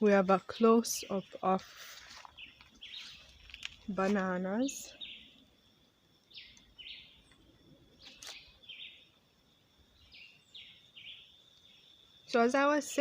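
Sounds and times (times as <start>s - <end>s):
insects humming: 0.0s - 13.0s.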